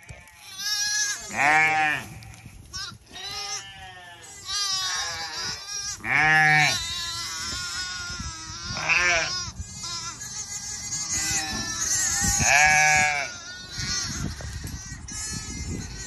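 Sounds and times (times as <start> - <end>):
sheep and lambs bleating: 0.0 - 16.0.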